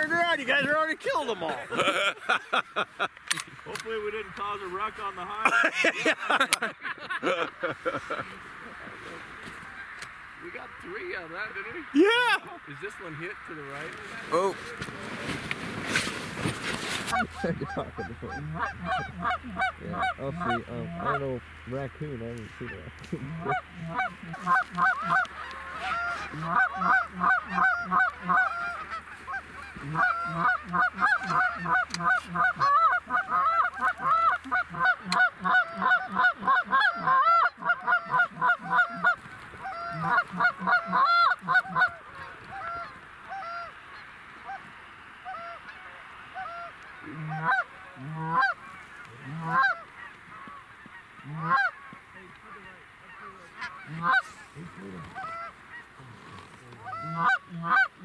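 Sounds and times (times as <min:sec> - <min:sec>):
geese honking: 0:08.4 - 0:14.5, 0:17.0 - 0:58.0.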